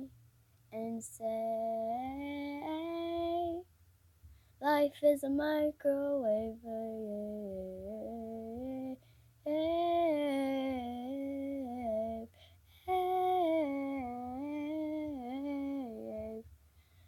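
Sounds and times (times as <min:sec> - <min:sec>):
girl humming a melody: 0:00.7 - 0:03.6, 0:05.6 - 0:16.4.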